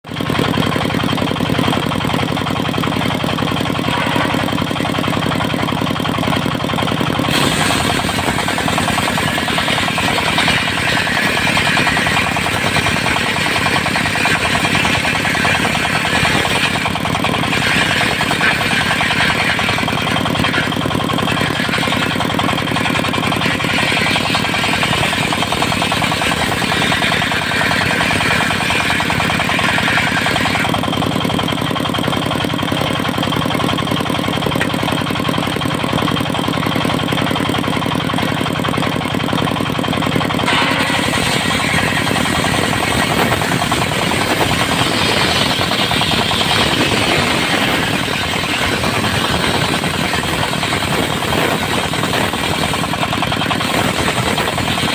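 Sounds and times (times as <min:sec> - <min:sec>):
sawmill engine drone: 0:00.0 - 0:54.9
saw blade cutting timber: 0:00.2 - 0:54.9.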